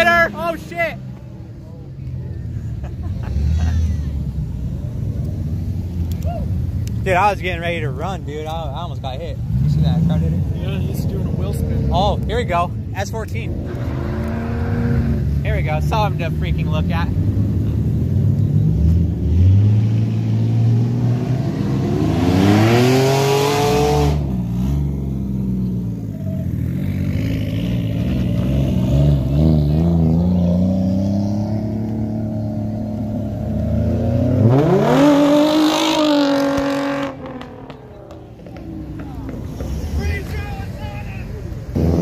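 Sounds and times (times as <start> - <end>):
car engine revving: 6.9 - 40.2, 41.6 - 42.0.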